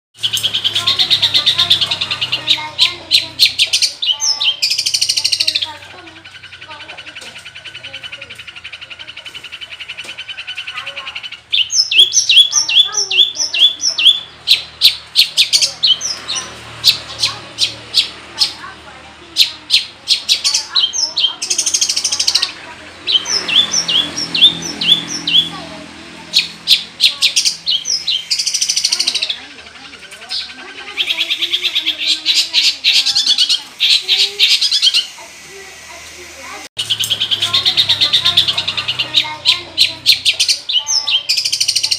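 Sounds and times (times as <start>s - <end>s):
bird chattering song: 0.2s - 41.9s
shrike singing mimicked calls: 0.2s - 41.9s.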